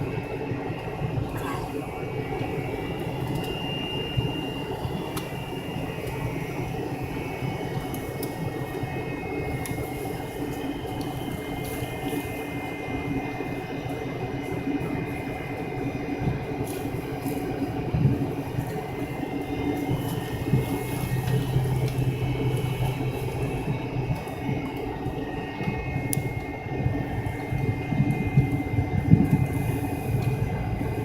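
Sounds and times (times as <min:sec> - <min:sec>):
jet engine high whine: 0:00.0 - 0:31.0.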